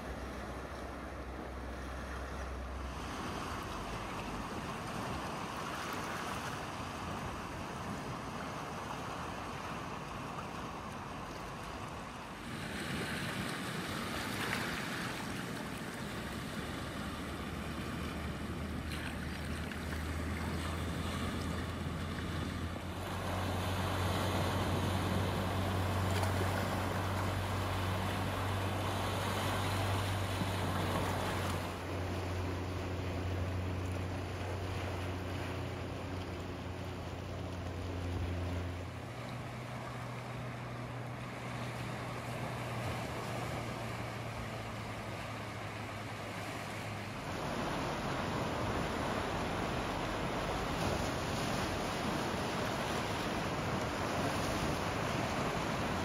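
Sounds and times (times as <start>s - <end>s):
low steady rumble: 0.0s - 56.0s
waves lapping over rocks and sand: 0.0s - 56.0s
wind: 0.0s - 56.0s.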